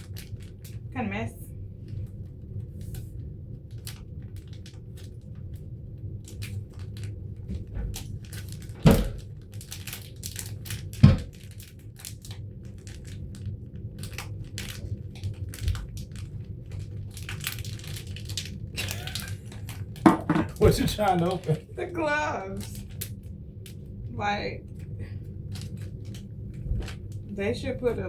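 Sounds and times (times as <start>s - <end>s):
plastic packaging crinkling: 0.0s - 0.9s, 1.9s - 24.0s, 24.7s - 28.0s
low steady hum: 0.0s - 28.0s.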